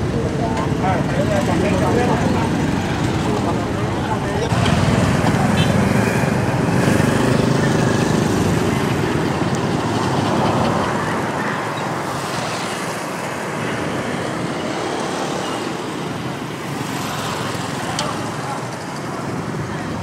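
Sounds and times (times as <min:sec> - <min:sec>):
scooters and motorbikes passing: 0:00.0 - 0:20.0
street traffic noise: 0:00.0 - 0:20.0.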